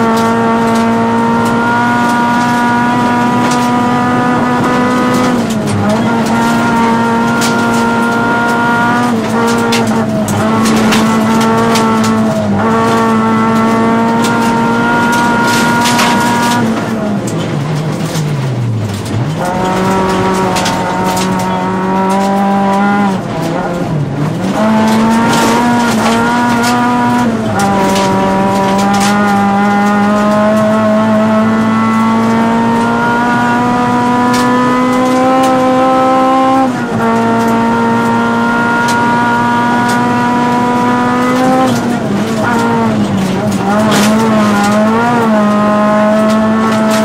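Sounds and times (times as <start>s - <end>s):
car engine revving hard: 0.0s - 47.0s.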